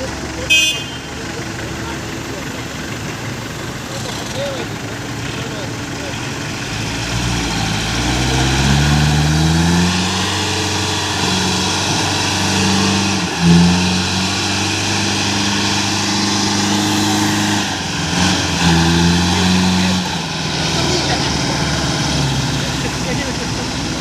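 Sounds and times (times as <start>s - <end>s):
small truck engine pulling: 0.0s - 24.0s.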